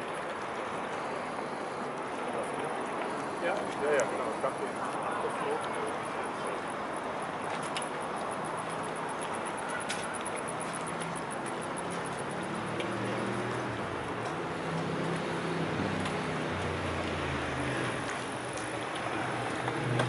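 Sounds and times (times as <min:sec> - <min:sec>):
traffic and street noise: 0:00.0 - 0:20.0.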